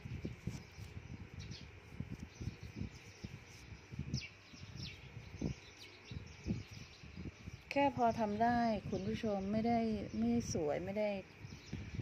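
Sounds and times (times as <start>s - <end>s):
falling bird chirps: 0.0s - 10.4s.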